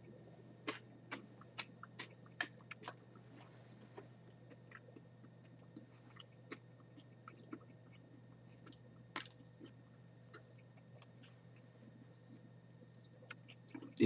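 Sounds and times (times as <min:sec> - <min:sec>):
crunchy food being chewed: 0:00.0 - 0:14.0.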